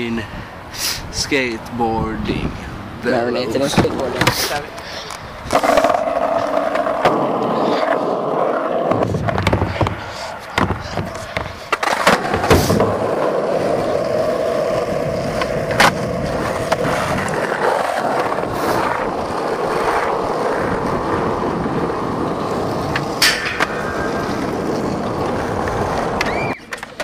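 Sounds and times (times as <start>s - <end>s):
skateboard wheels rolling on asphalt: 0.0s - 27.0s.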